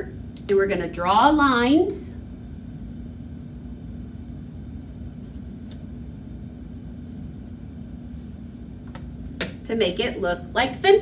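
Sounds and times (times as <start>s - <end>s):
faint hum: 0.0s - 11.0s
low background rumble: 0.0s - 11.0s.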